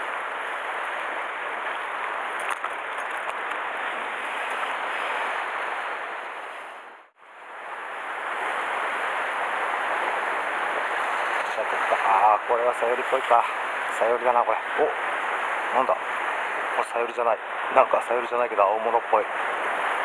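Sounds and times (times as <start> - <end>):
surf washing against rocks: 0.0 - 20.0.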